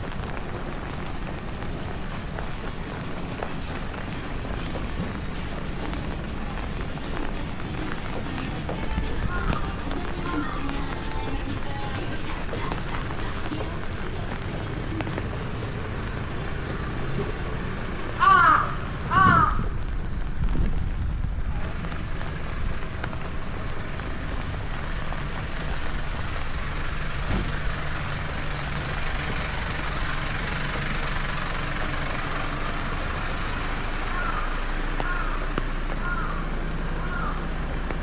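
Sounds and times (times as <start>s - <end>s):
large vehicle engine idling: 0.0s - 19.2s, 21.6s - 38.0s
rain: 0.0s - 38.0s.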